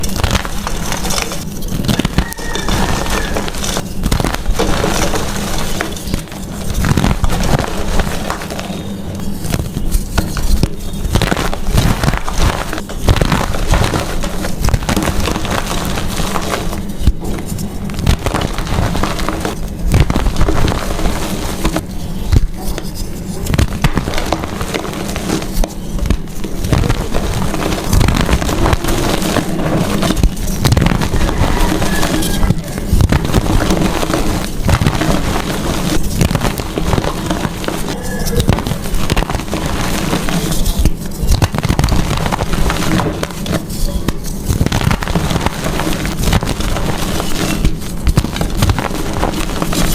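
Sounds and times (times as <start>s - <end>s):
chalk crunching: 0.0s - 49.9s.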